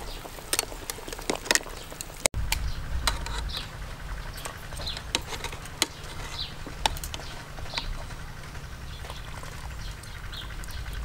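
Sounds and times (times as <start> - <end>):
low wind rumble: 0.0 - 11.0
metal tongs clicking on pot: 0.3 - 3.6, 4.4 - 10.8.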